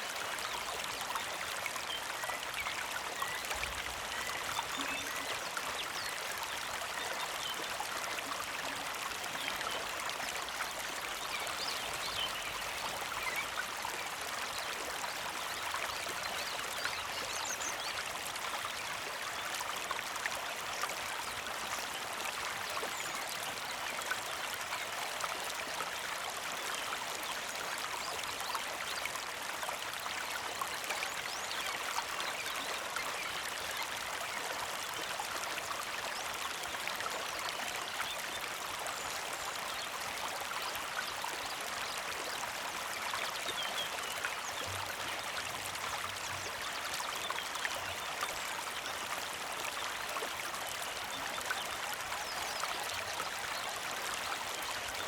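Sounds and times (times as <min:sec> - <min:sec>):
creek flowing over stones: 0:00.0 - 0:55.0.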